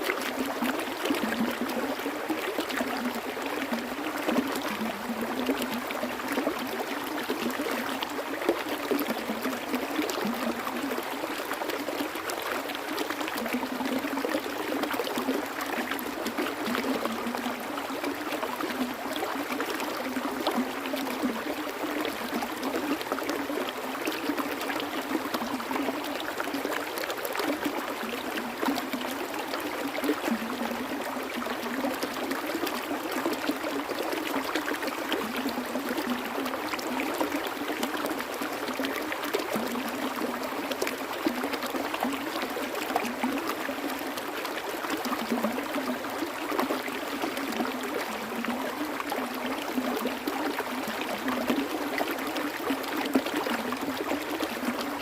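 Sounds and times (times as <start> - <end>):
stream water running over stones: 0.0 - 55.0.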